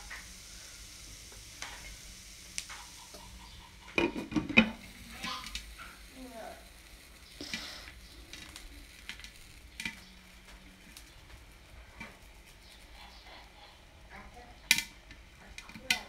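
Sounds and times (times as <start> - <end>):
oil sizzling: 0.0 - 16.0
popcorn popping: 0.0 - 16.0.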